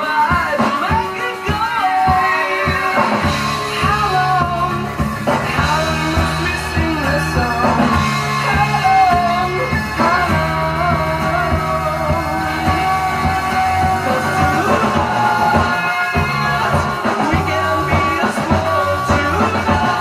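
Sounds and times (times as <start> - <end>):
rock song with singer: 0.0 - 20.0.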